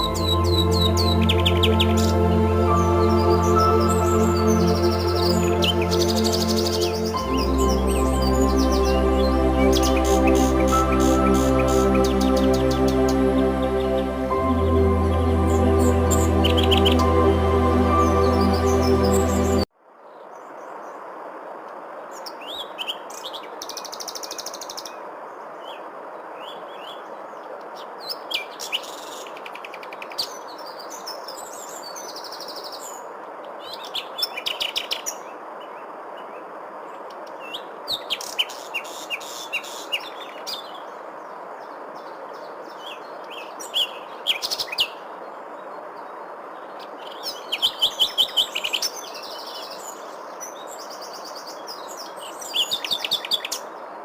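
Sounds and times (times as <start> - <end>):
songbirds chirping and trilling: 0.0 - 21.0, 22.2 - 54.0.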